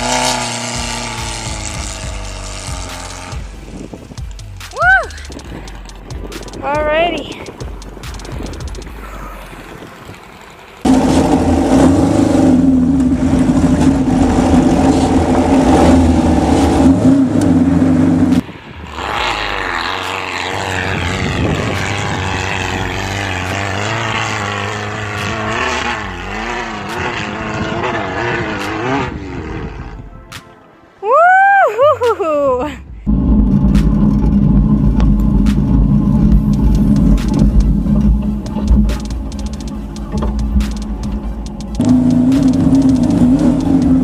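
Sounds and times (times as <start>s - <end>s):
car engine under load: 0.0s - 30.2s, 32.9s - 44.0s.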